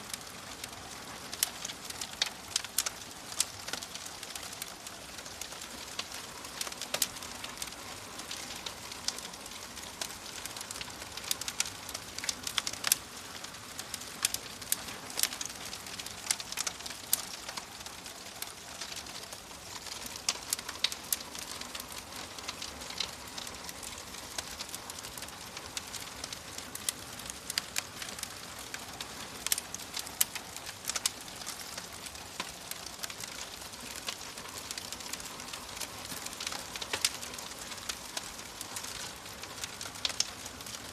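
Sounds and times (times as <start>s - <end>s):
fire crackling and popping: 0.0s - 40.9s
wood fire hissing: 0.0s - 40.9s.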